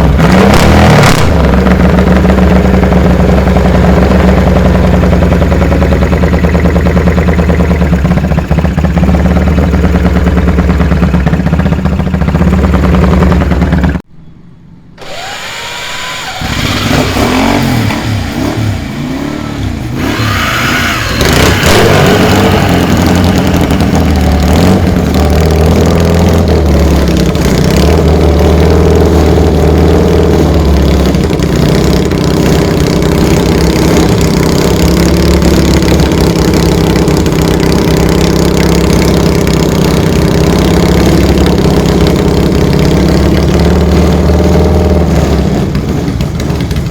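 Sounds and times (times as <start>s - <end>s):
motorcycle engine running loud: 0.0s - 14.1s, 16.1s - 46.9s.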